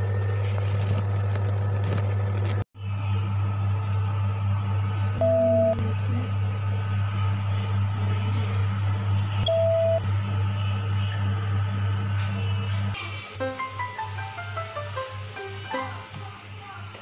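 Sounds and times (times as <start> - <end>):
oven humming: 0.0 - 17.0.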